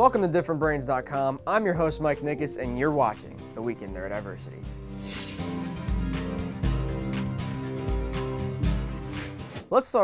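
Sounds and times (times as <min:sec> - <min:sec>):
instrumental theme music: 0:00.0 - 0:09.6.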